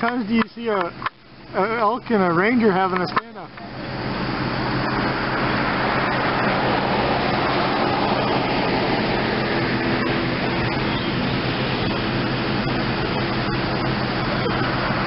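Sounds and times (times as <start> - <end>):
cars passing on road: 0.0 - 15.0
low hum: 0.0 - 15.0.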